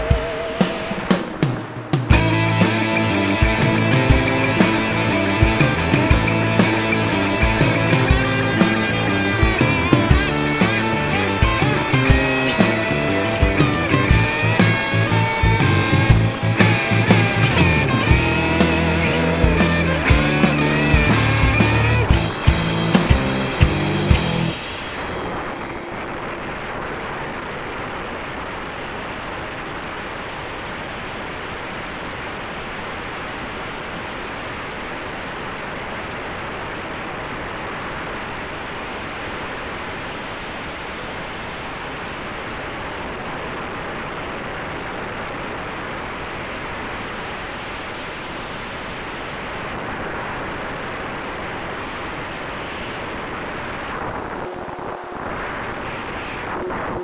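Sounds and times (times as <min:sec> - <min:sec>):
faint steady hum: 0:00.0 - 0:57.0
wind and propeller wash rushing: 0:00.0 - 0:57.0.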